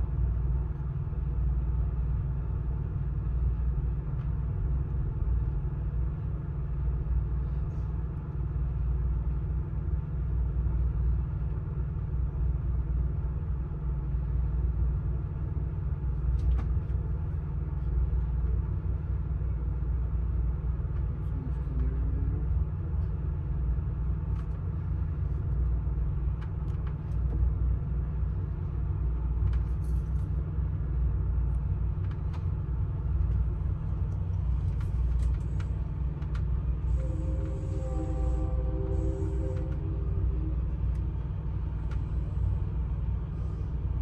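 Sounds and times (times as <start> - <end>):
train car rumbling on track: 0.0 - 44.0.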